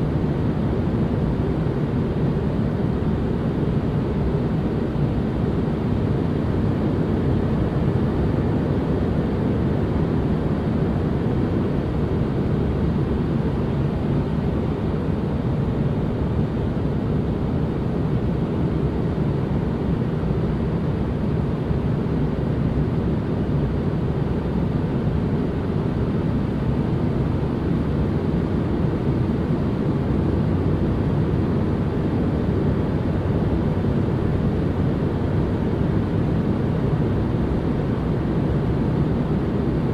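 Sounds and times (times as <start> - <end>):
white noise deep rumble: 0.0 - 39.9.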